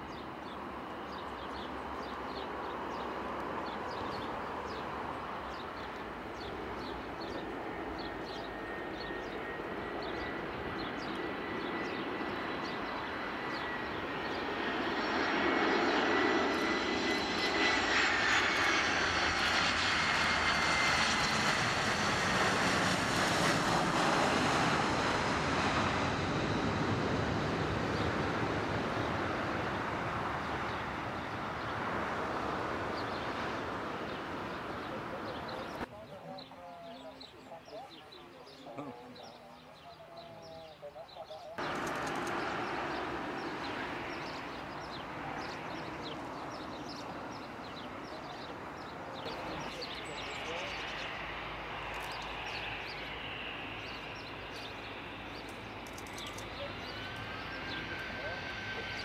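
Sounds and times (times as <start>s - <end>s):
jet engines rushing: 0.0s - 35.9s, 41.6s - 59.0s
small birds chirping: 0.1s - 26.7s, 32.9s - 59.0s.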